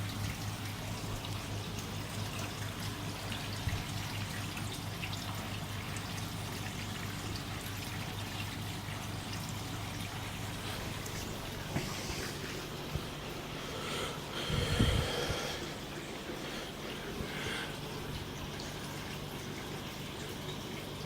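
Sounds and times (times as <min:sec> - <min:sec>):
constant low hum: 0:00.0 - 0:21.0
fine dripping splashes: 0:00.0 - 0:21.0
water trickling into a pond: 0:00.0 - 0:21.0.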